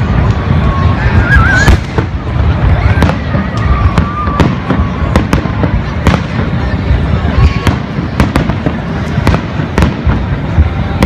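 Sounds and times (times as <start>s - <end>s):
continuous low rumble: 0.0s - 11.0s
fireworks bursting: 0.0s - 11.0s
fireworks crackles: 0.0s - 11.0s.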